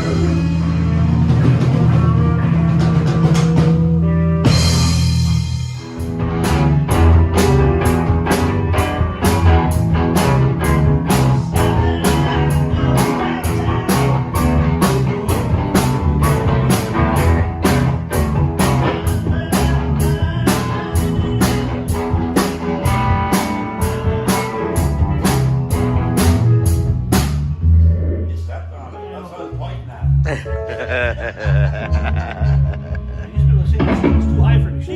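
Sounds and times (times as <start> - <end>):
rock band playing blues-rock: 0.0 - 27.7, 31.9 - 34.5.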